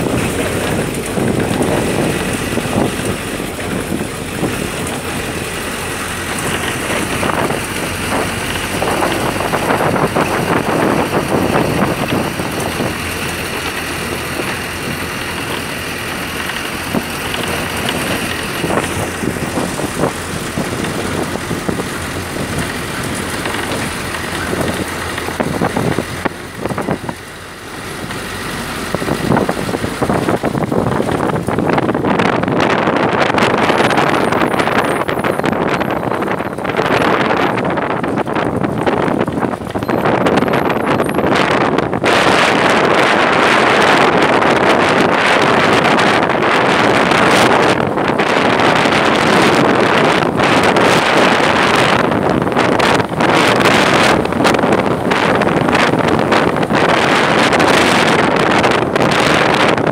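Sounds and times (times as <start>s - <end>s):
rattles: 0.0s - 27.2s, 28.0s - 59.9s
bus engine and road noise: 0.0s - 59.9s.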